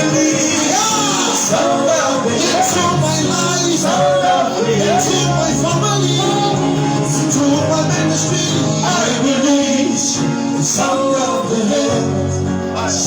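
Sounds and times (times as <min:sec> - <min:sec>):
person singing: 0:00.0 - 0:13.0
slow worship music chords: 0:00.0 - 0:13.0.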